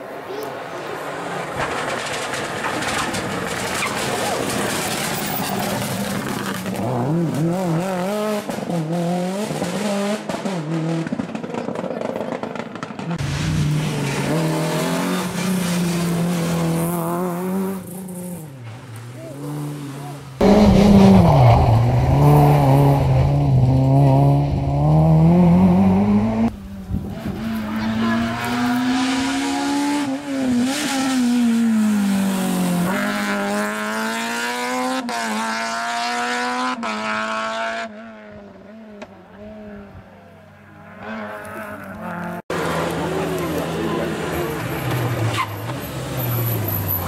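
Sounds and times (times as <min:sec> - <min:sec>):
rally car engines accelerating: 0:00.0 - 0:47.0.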